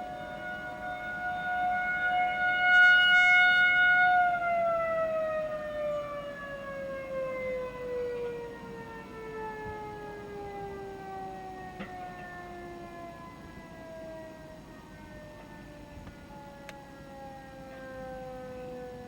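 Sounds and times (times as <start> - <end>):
civil defense warning siren: 0.0 - 19.0.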